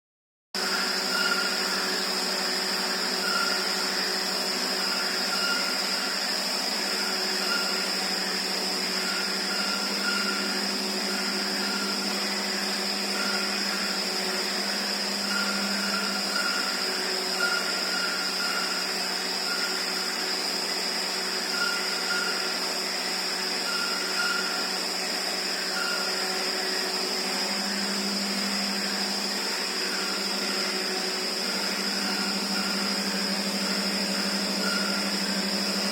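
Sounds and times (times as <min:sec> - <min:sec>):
machine hum with high whine: 0:00.6 - 0:35.9.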